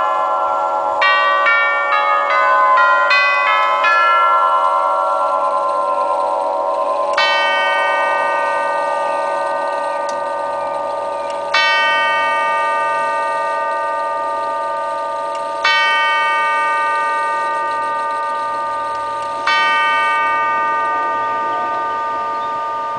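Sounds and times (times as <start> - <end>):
clock chime tube strikes: 0.0 - 22.9.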